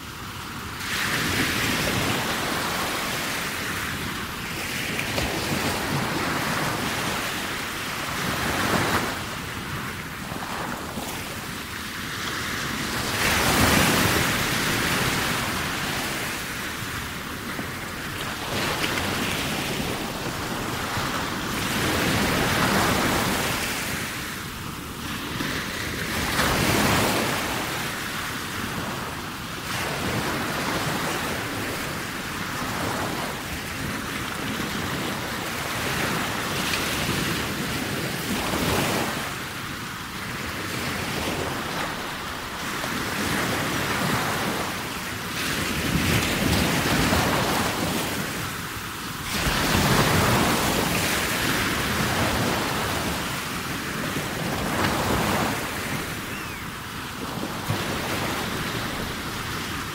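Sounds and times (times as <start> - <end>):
ocean waves breaking: 0.1 - 59.9.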